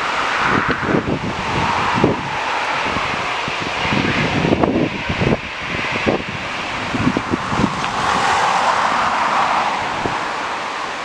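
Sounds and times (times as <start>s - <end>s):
jet engines rushing: 0.0s - 11.0s
wind buffeting microphone: 0.0s - 11.0s.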